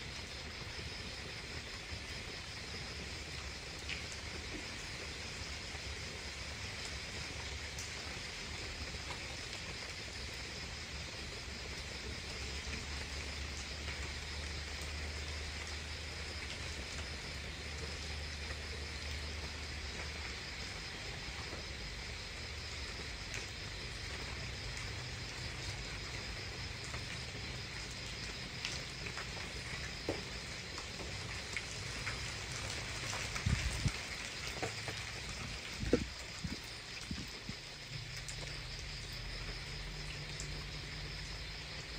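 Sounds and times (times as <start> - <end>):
insect chorus chirring: 0.0 - 41.9.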